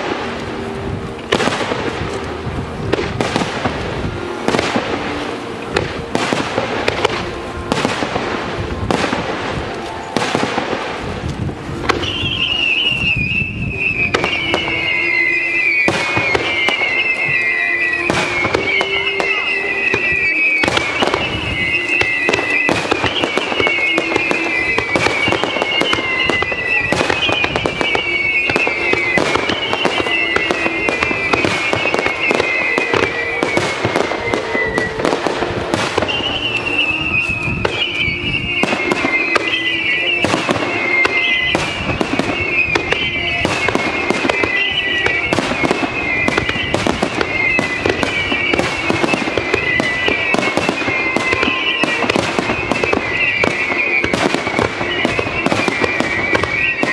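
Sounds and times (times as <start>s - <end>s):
fireworks bursting and crackling: 0.0s - 56.9s
music playing: 0.0s - 56.9s.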